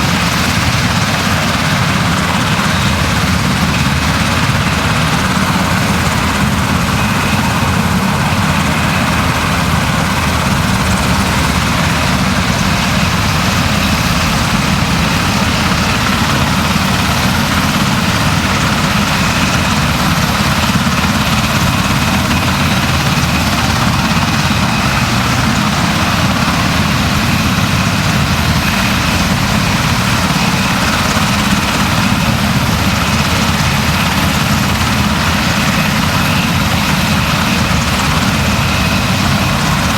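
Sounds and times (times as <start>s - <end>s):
loud engine drone: 0.0s - 39.9s.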